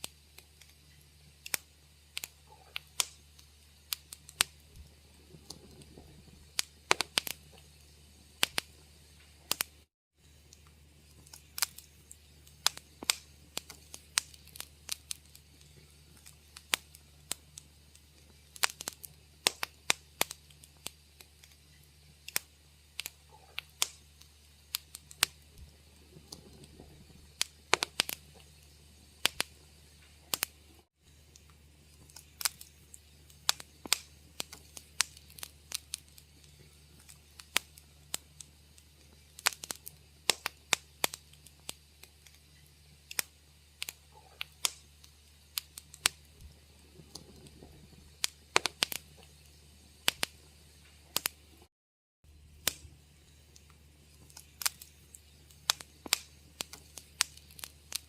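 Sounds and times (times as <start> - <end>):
faint low hum: 0.0 - 51.7
wood fire popping and snapping: 0.0 - 51.7, 52.4 - 58.0.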